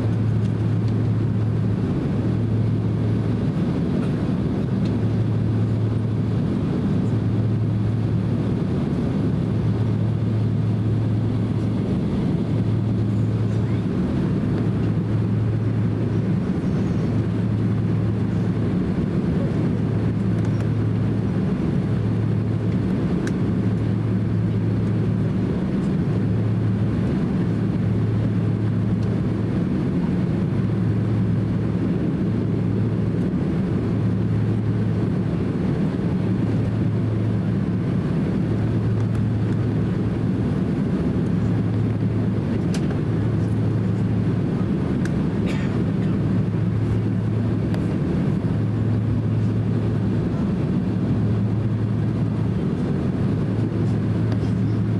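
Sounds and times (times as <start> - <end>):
jet engines rumbling in cabin: 0.0 - 54.9
low pulsing hum: 0.0 - 54.9.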